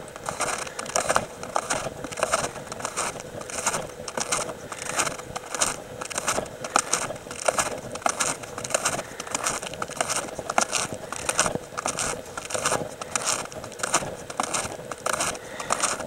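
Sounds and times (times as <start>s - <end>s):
snowshoes crunching through snow: 0.0s - 16.0s.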